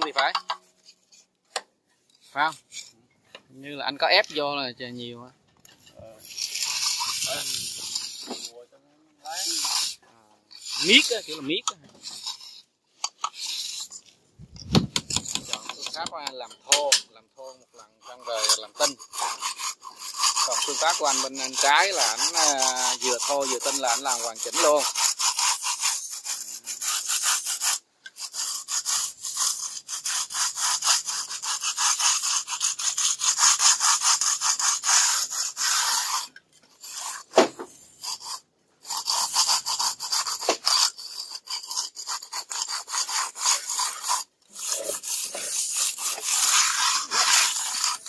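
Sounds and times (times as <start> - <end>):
plastering float scraping render: 0.0 - 48.0.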